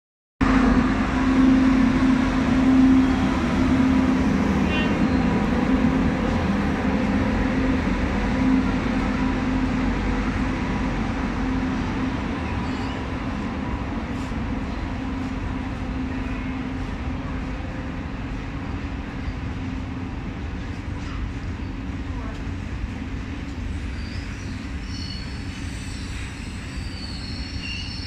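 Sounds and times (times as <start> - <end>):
train wheels rumbling on rails: 0.4 - 28.0.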